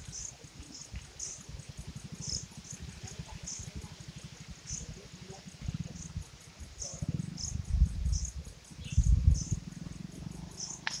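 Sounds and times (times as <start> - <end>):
low rumbling on microphone: 0.0 - 10.6
fast insect pulsing: 0.0 - 11.0
insects chirping: 0.0 - 11.0.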